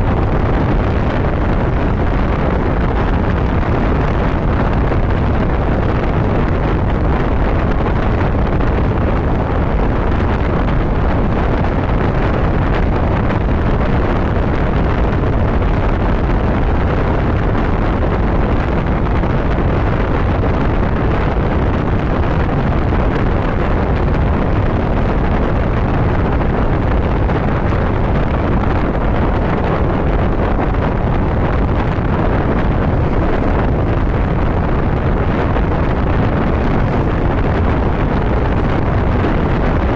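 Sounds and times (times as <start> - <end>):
motorcycle and road noise: 0.0 - 39.9
wind rushing over microphone: 0.0 - 39.9.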